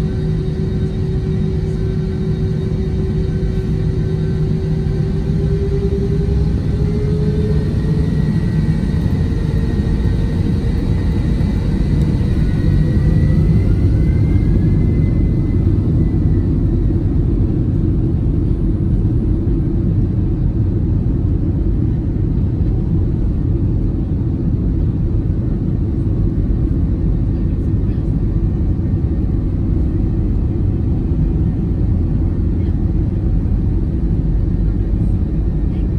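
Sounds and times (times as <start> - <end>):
jet engines rumbling: 0.0 - 35.9.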